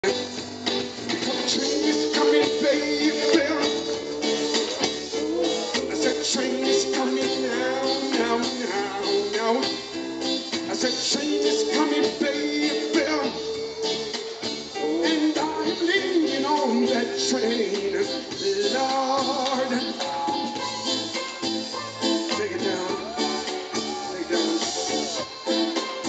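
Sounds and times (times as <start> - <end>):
live reggae band playing: 0.0 - 26.0
man singing into a microphone: 1.1 - 26.0.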